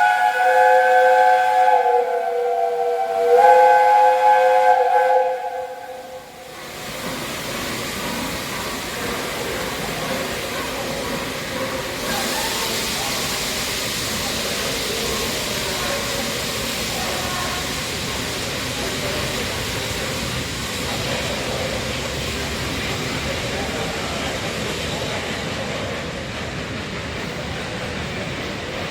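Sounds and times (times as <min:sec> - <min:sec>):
steam locomotive hissing: 0:00.0 - 0:28.9.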